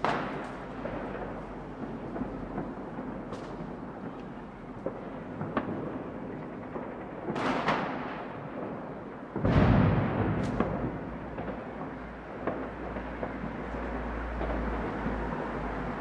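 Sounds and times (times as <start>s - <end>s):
fireworks boom: 0.0s - 15.2s
distant fireworks crackling rumble: 0.0s - 16.0s
sharp fireworks cracks: 0.0s - 16.0s.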